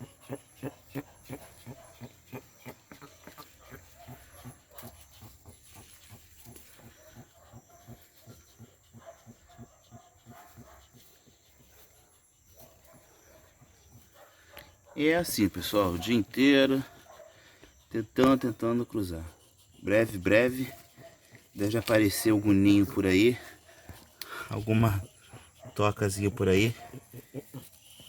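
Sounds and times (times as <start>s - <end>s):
tortoise clucking calls: 0.0s - 28.0s.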